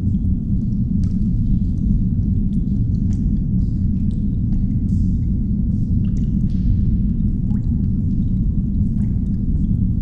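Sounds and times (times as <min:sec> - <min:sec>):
faint ticks and drips: 0:00.0 - 0:10.0.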